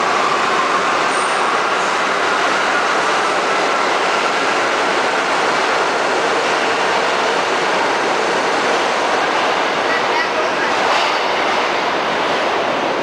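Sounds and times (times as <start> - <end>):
subway train wheels rushing on rail: 0.0 - 13.0.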